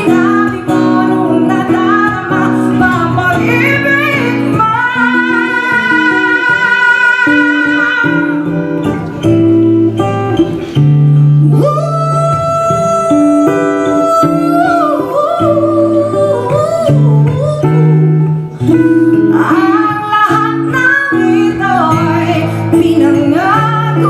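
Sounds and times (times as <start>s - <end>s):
guitar accompaniment: 0.0s - 24.0s.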